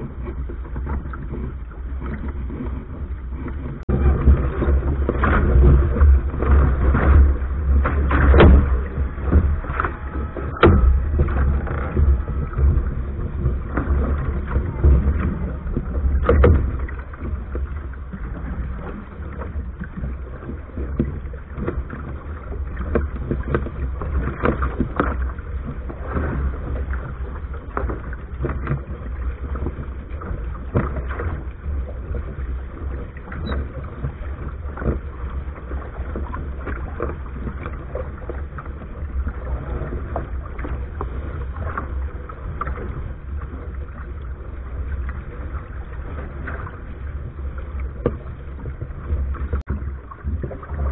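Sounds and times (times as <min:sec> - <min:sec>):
water splashing against hull: 0:00.0 - 0:50.9
wind buffeting microphone: 0:00.0 - 0:50.9.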